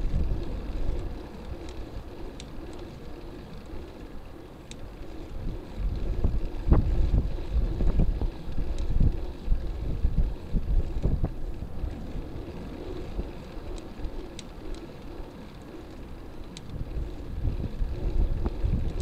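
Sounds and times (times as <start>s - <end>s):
wind buffeting microphone: 0.0s - 3.8s, 4.8s - 19.0s
bicycle tyres rolling on concrete: 0.0s - 19.0s.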